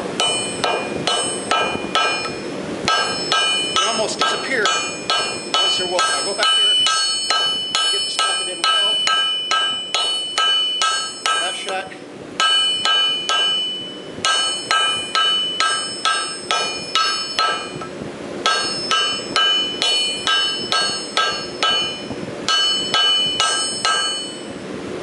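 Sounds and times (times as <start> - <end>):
hammer ringing on anvil: 0.1 - 24.6.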